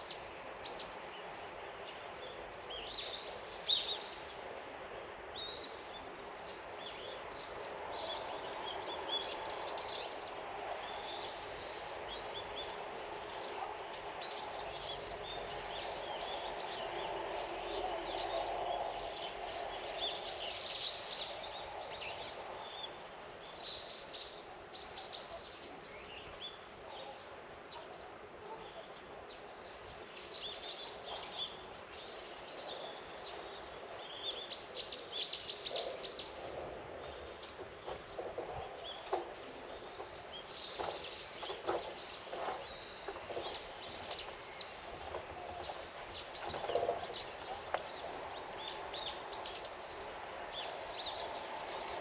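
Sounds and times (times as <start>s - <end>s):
songbirds calling: 0.0s - 52.0s.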